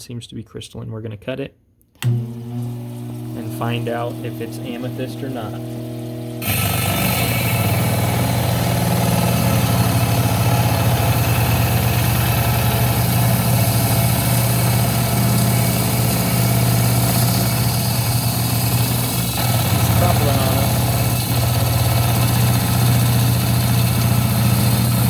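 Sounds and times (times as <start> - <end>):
motor hum: 2.0 - 25.0.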